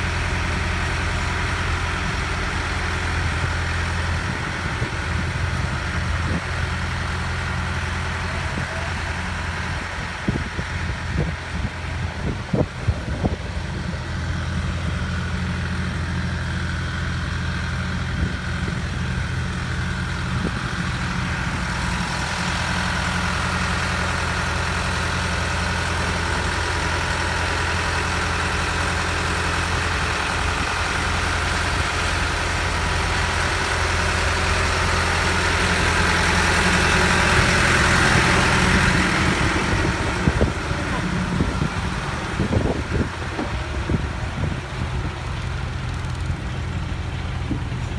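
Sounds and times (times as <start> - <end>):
concrete pump engine humming: 0.0 - 47.9.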